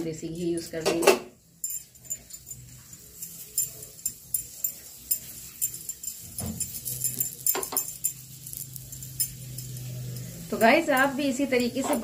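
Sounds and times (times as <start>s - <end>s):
flatbread sizzling in a pan: 1.3s - 12.0s.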